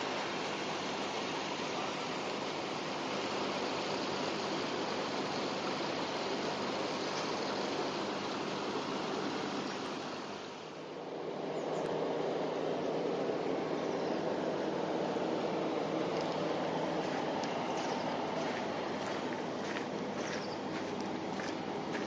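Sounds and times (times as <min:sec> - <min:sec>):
rushing water noise: 0:00.0 - 0:22.0.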